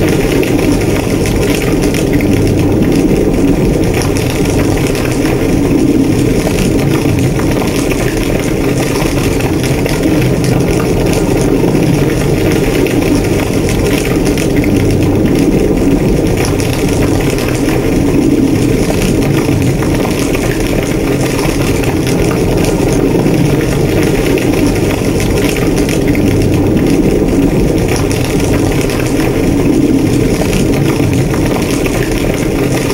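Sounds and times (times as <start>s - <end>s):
fire rumbling and crackling: 0.0s - 32.9s.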